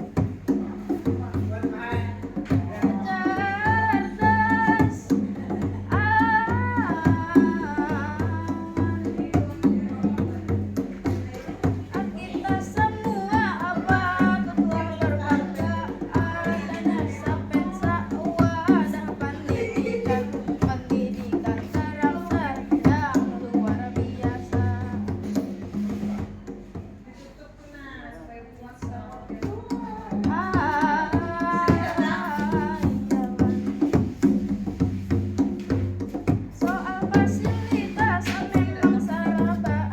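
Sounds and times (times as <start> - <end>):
drum and percussion rhythm: 0.0 - 27.5, 28.6 - 39.9.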